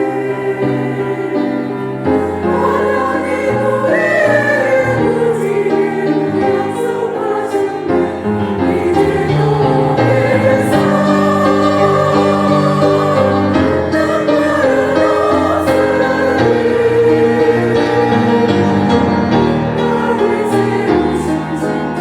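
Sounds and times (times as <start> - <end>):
church choir singing: 0.0 - 22.0.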